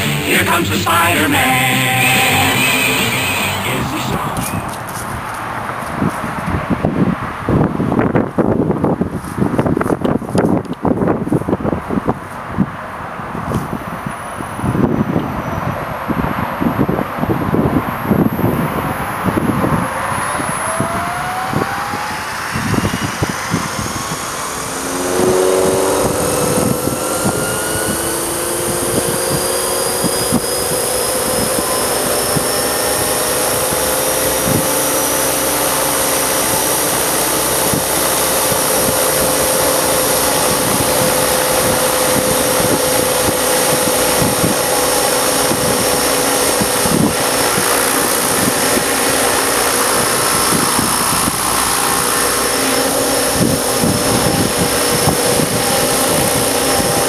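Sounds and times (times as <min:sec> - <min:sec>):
rotor noise: 0:00.0 - 0:12.2, 0:15.9 - 0:57.0
rc helicopter motor whine: 0:01.3 - 0:57.0.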